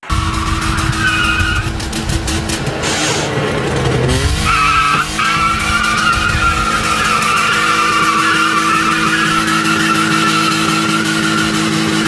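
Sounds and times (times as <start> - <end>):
car engine revving hard: 0.0 - 12.0
car tyres squealing: 0.0 - 12.0.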